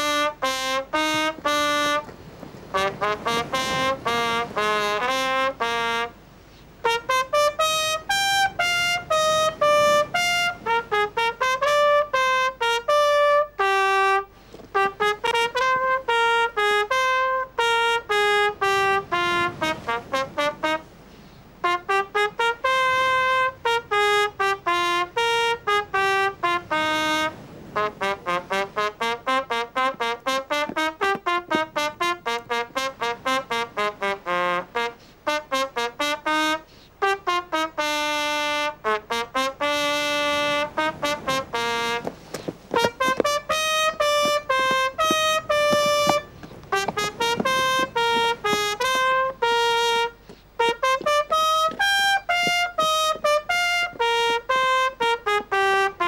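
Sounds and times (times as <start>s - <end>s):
solo trumpet melody: 0.0s - 56.0s.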